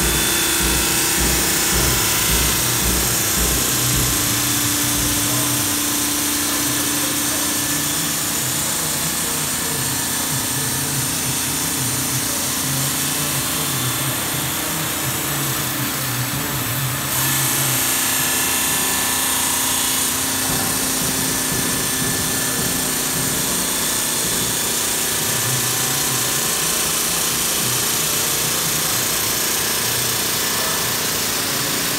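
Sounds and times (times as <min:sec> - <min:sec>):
saw blade cutting through slate: 0:00.0 - 0:31.9
saw motor hum: 0:00.0 - 0:31.9.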